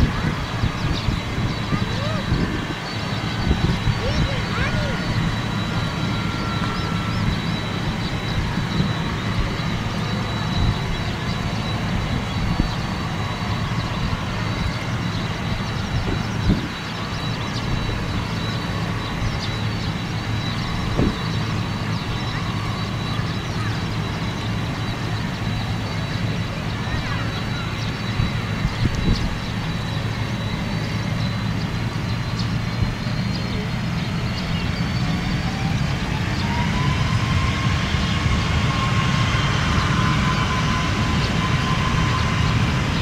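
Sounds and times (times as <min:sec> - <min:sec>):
jet engine high whine: 0:00.0 - 0:43.0
jet engines low rumble: 0:00.0 - 0:43.0.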